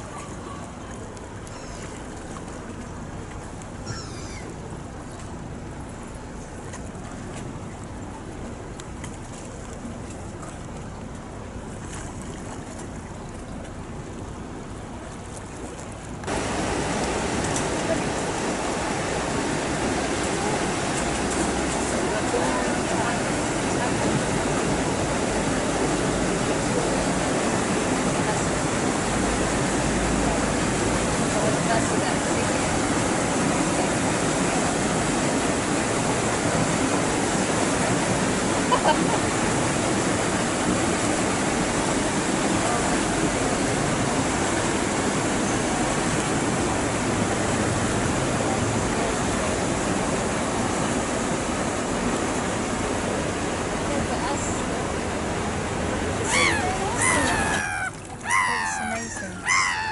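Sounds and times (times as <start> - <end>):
paddle wheels churning water: 0.0 - 59.9.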